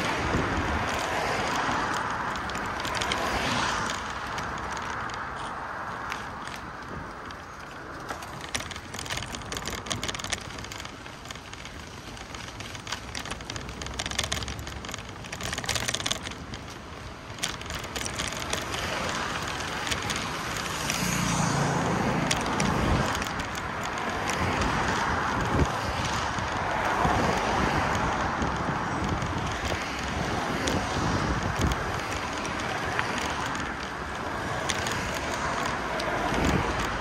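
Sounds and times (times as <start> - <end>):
road traffic noise: 0.0 - 37.0
small clicks and ticks: 0.0 - 37.0.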